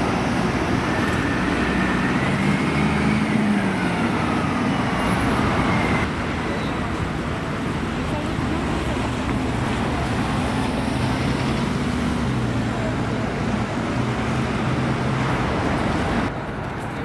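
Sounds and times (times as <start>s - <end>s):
bus engine driving past: 0.0s - 17.0s
street traffic noise: 0.0s - 17.0s.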